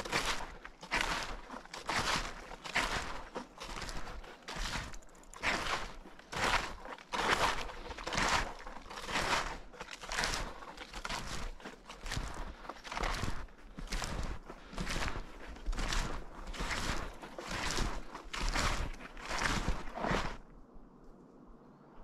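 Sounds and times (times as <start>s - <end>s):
snowshoes crunching powder snow: 0.0s - 20.4s.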